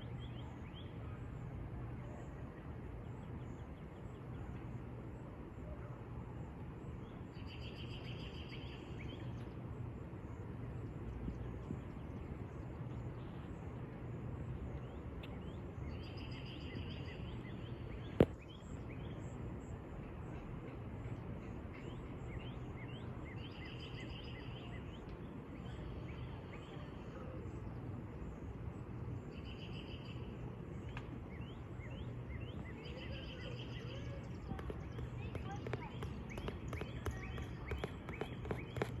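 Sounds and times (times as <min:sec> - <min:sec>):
low background hum: 0:00.0 - 0:39.0
songbirds singing: 0:00.0 - 0:39.0.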